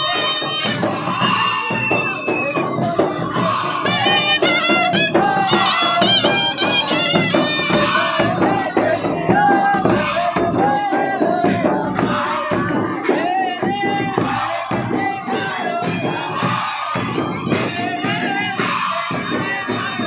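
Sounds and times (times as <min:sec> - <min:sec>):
barrel drums beaten: 0:00.0 - 0:20.0
crowd singing and calling: 0:00.0 - 0:20.0.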